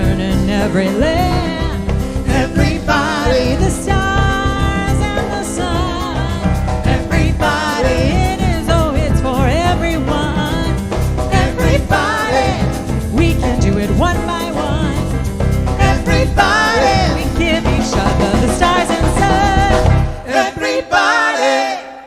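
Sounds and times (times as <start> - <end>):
jazz band playing live: 0.0 - 20.8.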